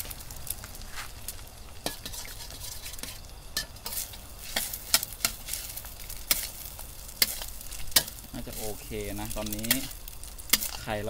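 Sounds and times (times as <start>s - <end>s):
food sizzling in a pan: 0.0s - 11.0s
utensil scraping a pan: 1.8s - 10.9s.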